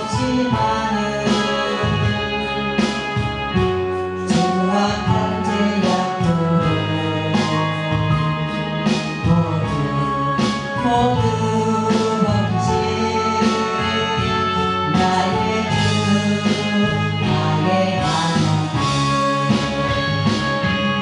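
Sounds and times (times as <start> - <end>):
instrumental accompaniment: 0.0 - 21.0
person singing gospel: 0.0 - 21.0.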